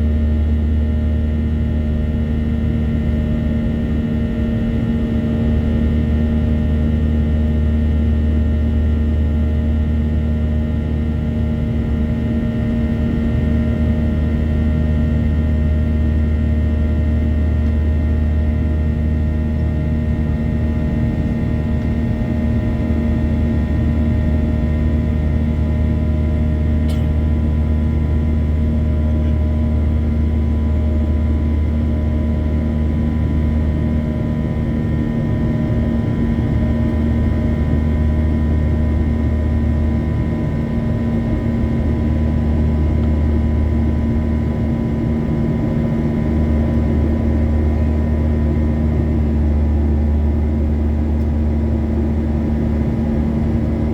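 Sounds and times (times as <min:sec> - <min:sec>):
airplane cabin rumble: 0:00.0 - 0:53.9.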